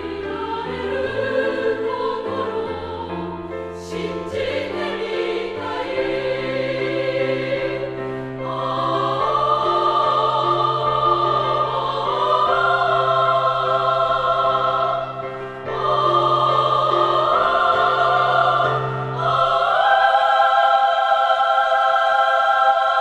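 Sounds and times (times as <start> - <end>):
women's chorus singing: 0.0 - 23.0.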